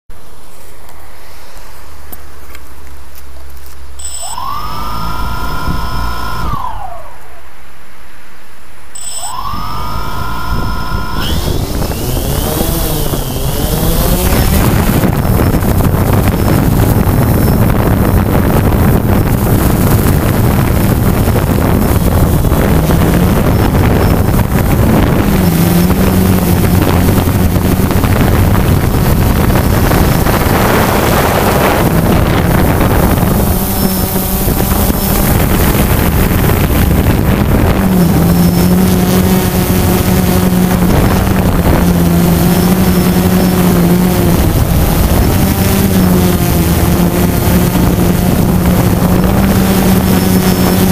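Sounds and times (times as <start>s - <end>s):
wind on microphone: 3.9s - 7.6s, 8.9s - 50.9s
drone propellers buzzing: 4.0s - 7.7s, 9.0s - 50.9s.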